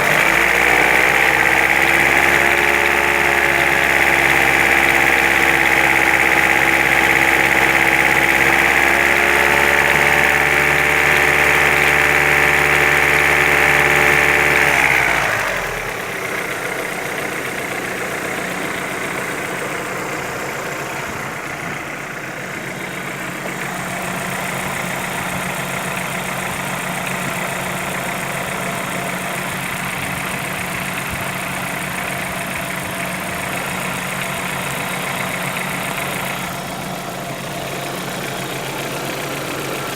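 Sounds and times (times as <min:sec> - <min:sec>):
engine running then idling: 0:00.0 - 0:39.9.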